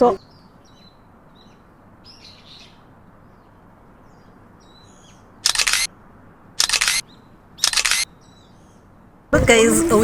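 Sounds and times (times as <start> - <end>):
outdoor background: 0.0 - 10.0.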